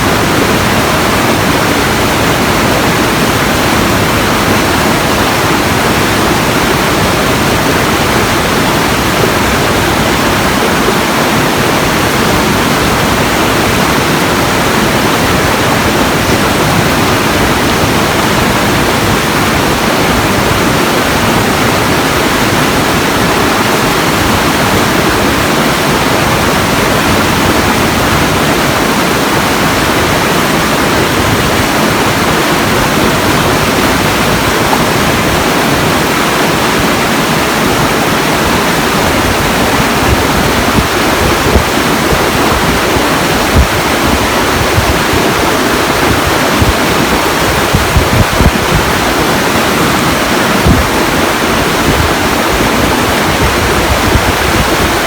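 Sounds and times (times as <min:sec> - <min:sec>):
loud rushing water: 0:00.0 - 0:55.0.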